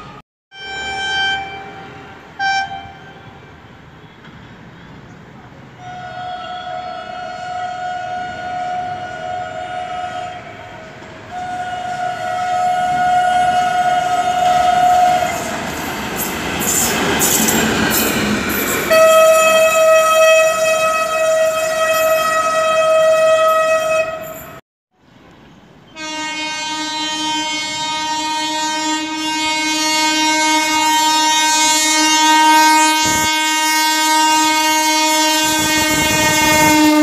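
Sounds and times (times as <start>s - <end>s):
lower-pitched horn: 0.0s - 3.6s, 5.8s - 15.6s, 18.9s - 24.6s, 26.0s - 37.0s
locomotive horn: 0.0s - 4.2s, 5.8s - 15.7s, 18.9s - 24.6s, 25.9s - 37.0s
train rumble: 0.0s - 37.0s.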